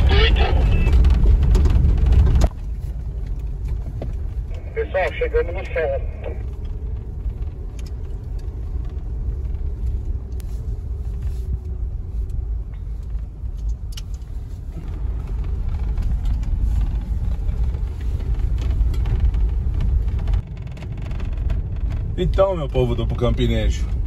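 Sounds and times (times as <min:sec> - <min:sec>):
sharp clicks and rattles: 0:00.0 - 0:10.5, 0:11.6 - 0:24.0
vehicle engine and tyres rumbling: 0:00.0 - 0:24.0.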